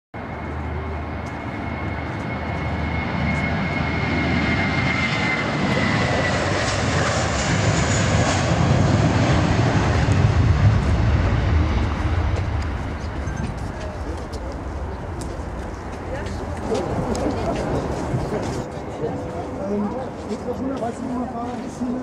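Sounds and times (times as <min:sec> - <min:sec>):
high engine whine: 0:00.2 - 0:22.0
jet engine roar: 0:00.2 - 0:22.0.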